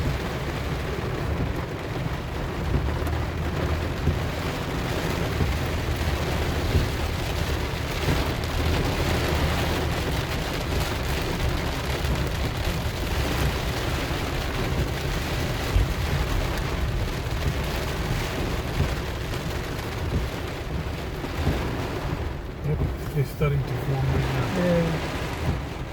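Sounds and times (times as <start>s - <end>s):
heavy rain falling: 0.0s - 25.9s.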